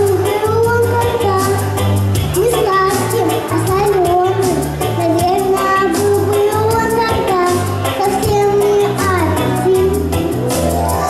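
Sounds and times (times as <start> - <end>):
pop backing track with beat: 0.0 - 11.0.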